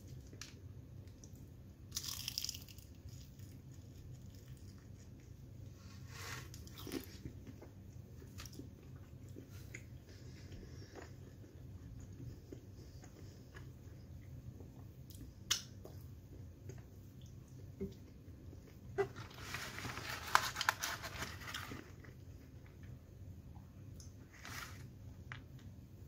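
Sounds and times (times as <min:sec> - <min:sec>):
crackling of flaky pastry: 0:00.0 - 0:23.0, 0:23.9 - 0:26.0
chewing pastry: 0:00.0 - 0:25.7.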